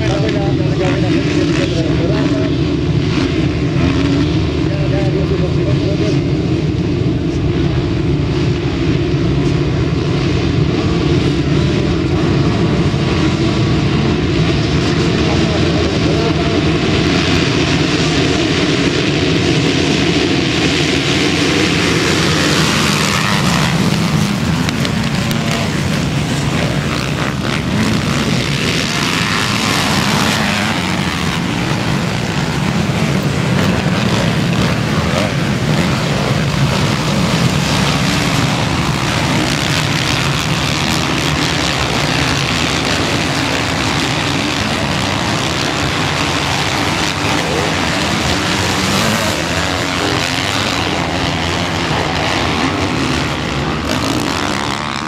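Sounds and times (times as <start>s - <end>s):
motocross bike engines racing: 0.0s - 55.0s.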